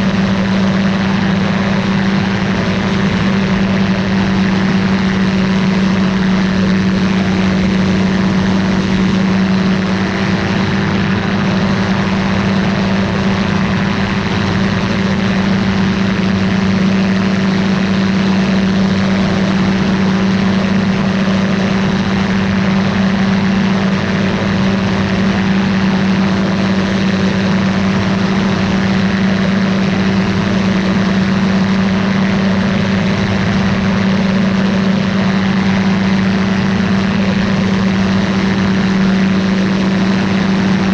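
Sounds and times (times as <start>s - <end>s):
light aircraft engine and propeller: 0.0s - 40.9s.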